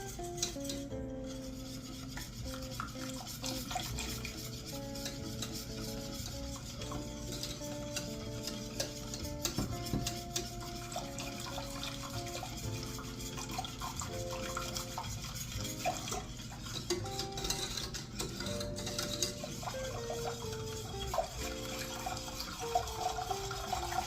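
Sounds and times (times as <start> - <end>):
soft background music: 0.0 - 24.0
utensil scraping saucepan: 0.0 - 24.0.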